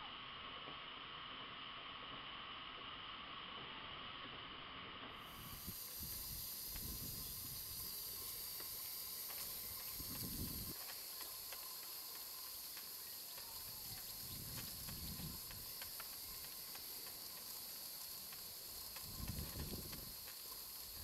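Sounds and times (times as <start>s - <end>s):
steam hissing: 0.0s - 21.0s.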